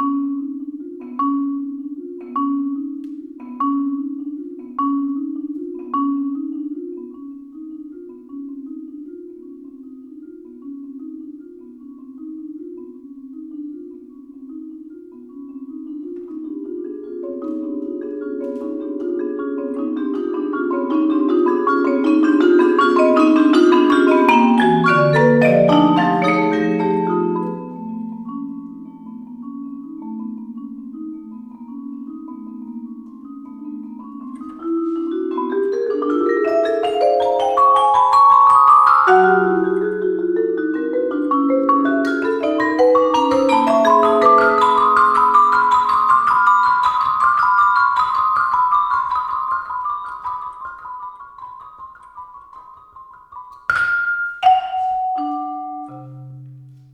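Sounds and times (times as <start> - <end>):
marimbas and vibraphone playing: 0.0 - 56.9.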